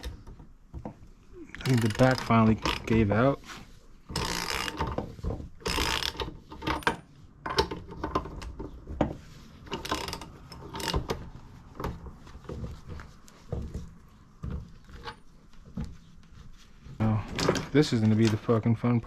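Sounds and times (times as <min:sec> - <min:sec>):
hand tools clicking and scraping: 0:00.0 - 0:15.9.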